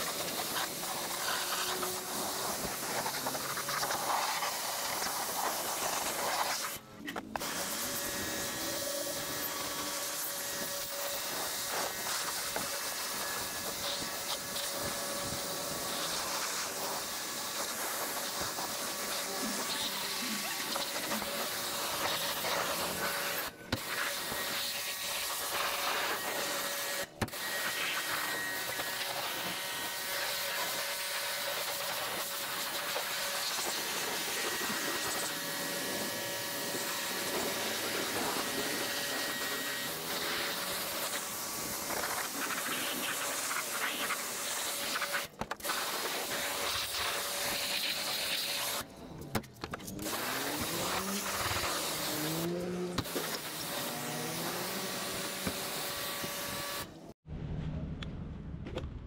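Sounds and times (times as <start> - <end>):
pressure washer spraying water: 0.0 - 6.8, 7.4 - 48.8, 50.0 - 57.0.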